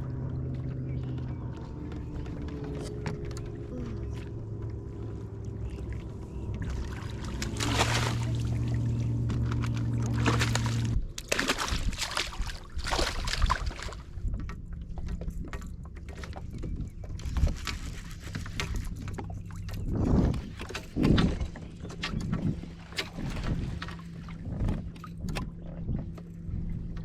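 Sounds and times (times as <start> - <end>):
low motor hum: 0.0 - 27.0
water splashing at kayak: 0.0 - 27.0.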